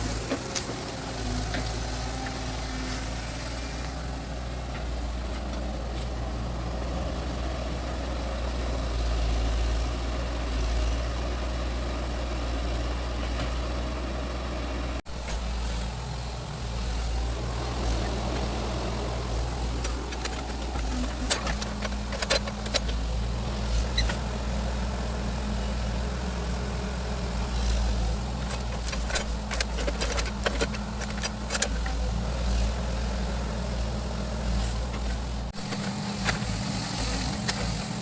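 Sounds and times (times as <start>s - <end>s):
excavator diesel engine rumbling: 0.0s - 38.0s.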